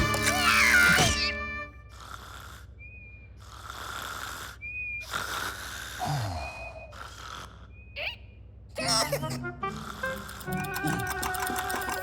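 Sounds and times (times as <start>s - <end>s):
cartoon snoring: 0.0s - 2.8s, 3.4s - 7.7s, 8.8s - 12.0s.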